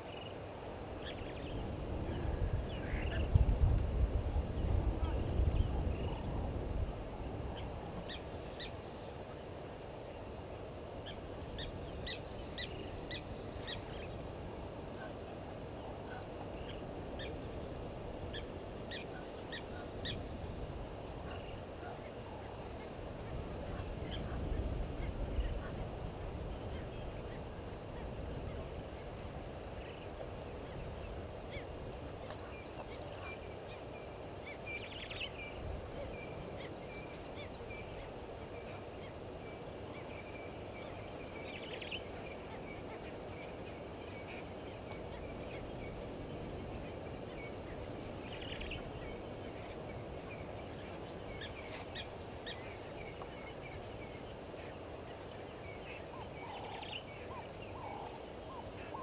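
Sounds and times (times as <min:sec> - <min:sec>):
faint continuous chirping: 0:00.0 - 0:59.0
low background hiss: 0:00.0 - 0:59.0.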